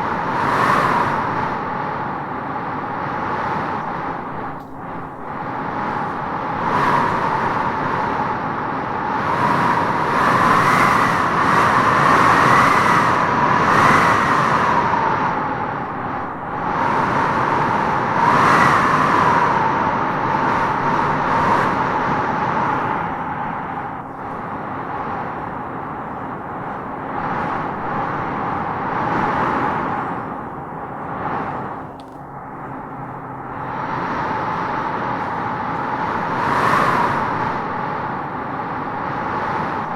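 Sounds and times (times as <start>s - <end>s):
howling wind gusts: 0.0s - 39.9s.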